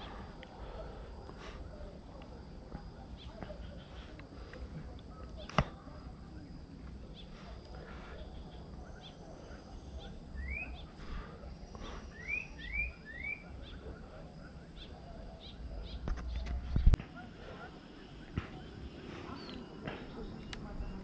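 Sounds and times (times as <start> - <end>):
bird chirping: 1.8 - 21.0.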